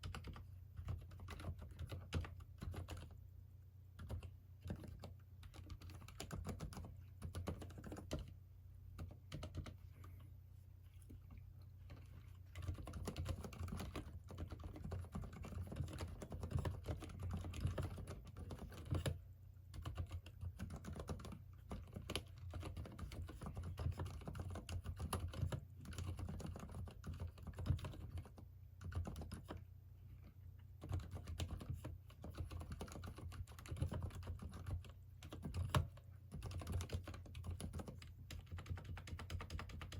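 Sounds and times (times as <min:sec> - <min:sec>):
dampened keyboard typing: 0:00.0 - 0:03.2, 0:04.0 - 0:10.2, 0:11.3 - 0:29.7, 0:30.7 - 0:39.9.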